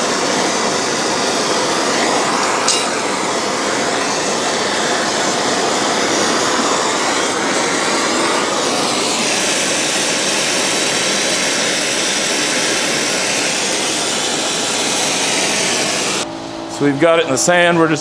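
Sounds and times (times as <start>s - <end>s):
torch flame hissing: 0.0s - 16.3s.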